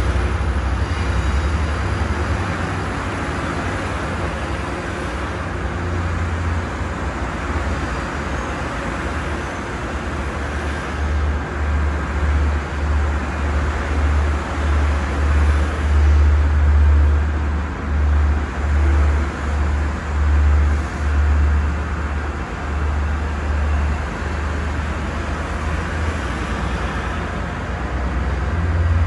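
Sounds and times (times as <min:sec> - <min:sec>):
train rumbling along track: 0:00.0 - 0:29.0.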